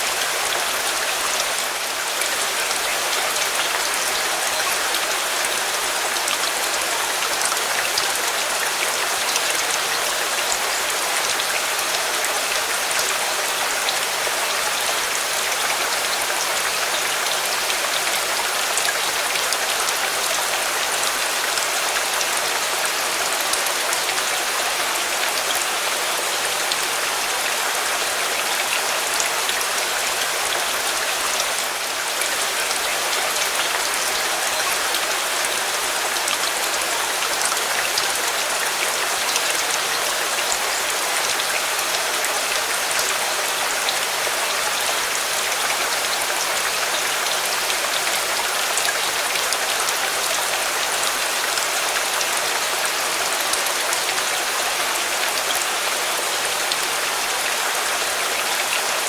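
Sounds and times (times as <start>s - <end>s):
heavy rain ticking on surfaces: 0.0s - 59.0s.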